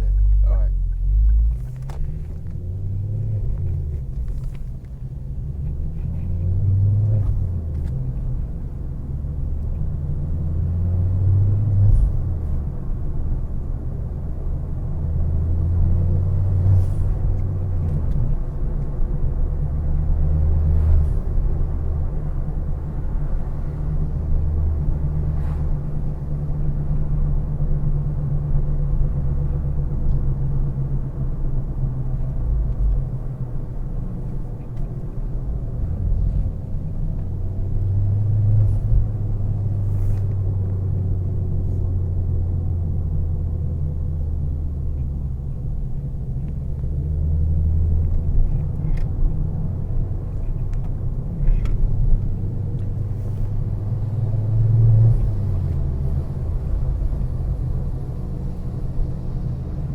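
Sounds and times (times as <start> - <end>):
car engine droning while driving: 0.0 - 59.9.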